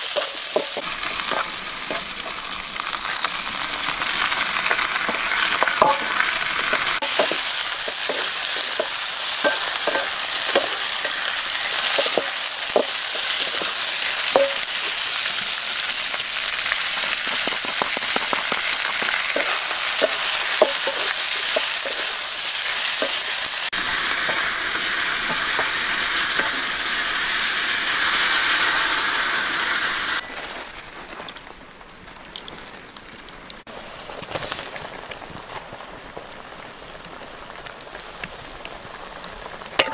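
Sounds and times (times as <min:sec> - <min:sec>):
frog meat sizzling in hot oil: 0:00.0 - 0:30.6, 0:32.2 - 0:39.9.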